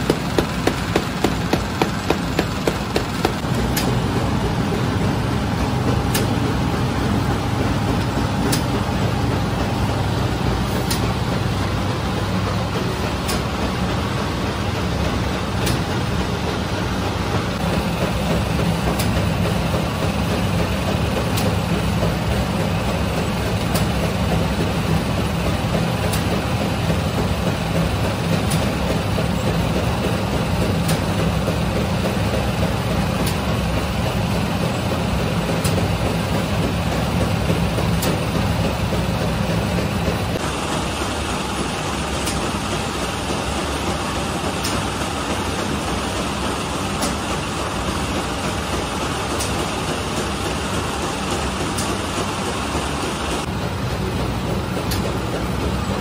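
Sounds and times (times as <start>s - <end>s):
machine hum and rumble: 0.0s - 56.0s.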